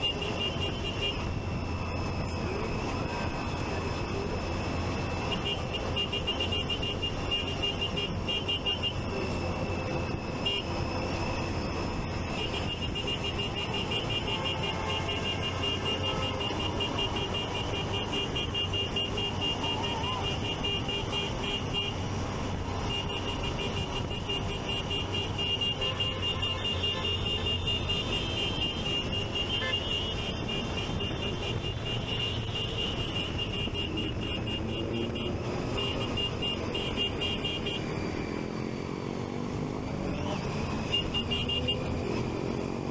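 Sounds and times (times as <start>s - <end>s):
engines and traffic hum: 0.0s - 42.9s.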